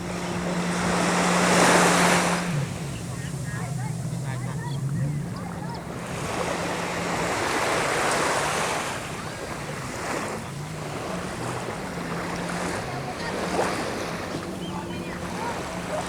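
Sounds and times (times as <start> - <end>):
low motor hum: 0.0 - 16.0
sea waves washing on beach: 0.0 - 16.0.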